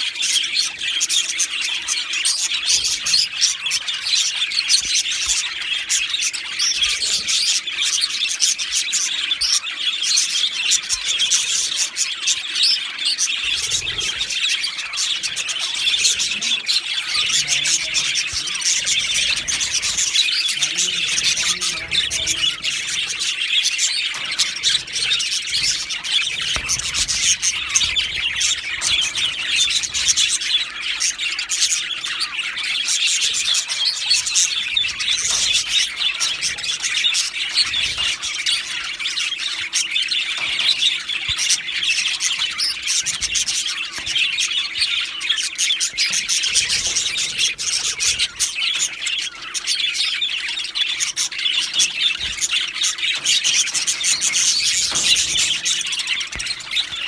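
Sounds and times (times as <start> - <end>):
budgies warbling and chirping: 0.0 - 57.0.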